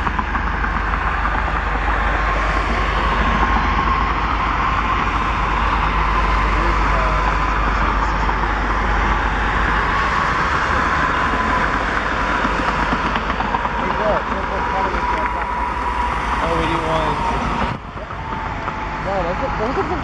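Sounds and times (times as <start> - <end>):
thin steady whine: 0.0 - 20.0
train rumbling past: 0.0 - 20.0.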